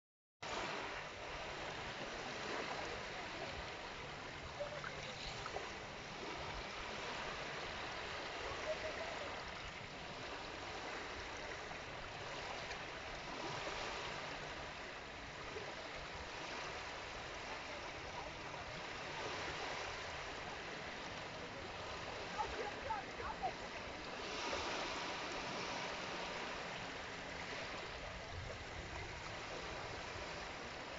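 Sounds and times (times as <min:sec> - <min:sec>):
small waves lapping on pebbles: 0:00.4 - 0:30.9.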